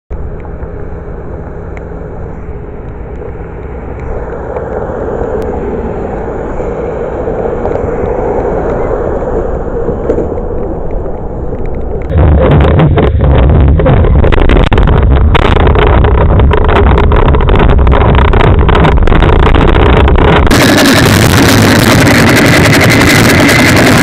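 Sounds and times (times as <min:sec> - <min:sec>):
bicycle road noise on wet pavement: 0:00.2 - 0:24.0.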